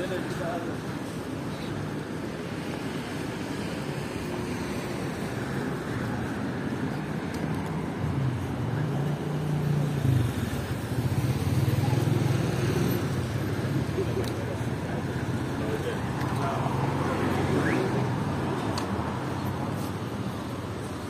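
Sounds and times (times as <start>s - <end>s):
vehicle engines running: 0.0s - 21.0s.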